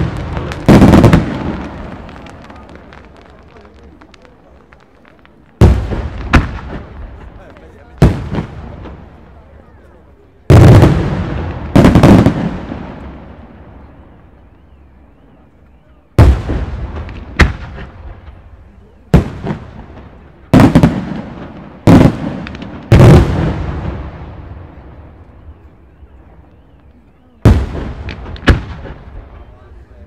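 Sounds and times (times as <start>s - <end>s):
fireworks banging with echo: 0.0s - 30.0s.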